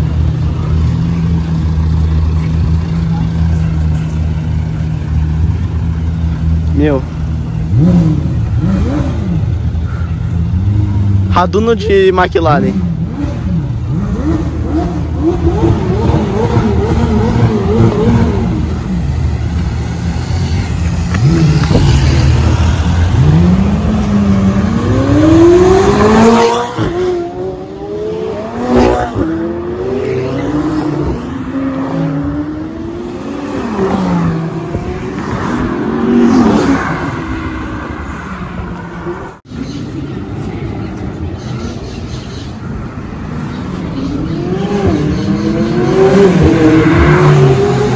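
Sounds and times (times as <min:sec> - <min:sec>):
sports car engines revving: 0:00.0 - 0:47.9.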